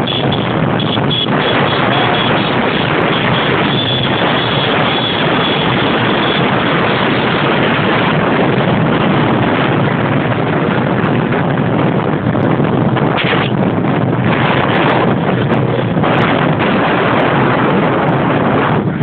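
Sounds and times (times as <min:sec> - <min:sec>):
motorcycle engine at speed: 0:00.0 - 0:19.0
wind noise on microphone: 0:00.0 - 0:19.0.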